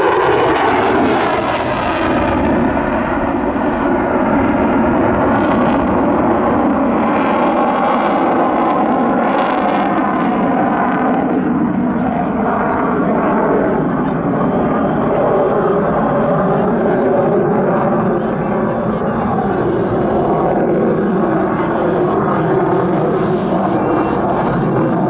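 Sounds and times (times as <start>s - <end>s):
fighter jet roaring: 0.0s - 25.0s.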